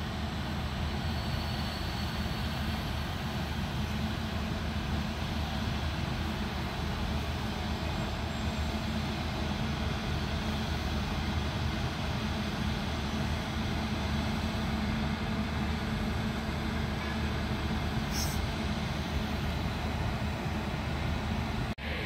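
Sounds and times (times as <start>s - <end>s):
electric locomotives droning: 0.0s - 22.0s
rail rumble: 0.0s - 22.0s.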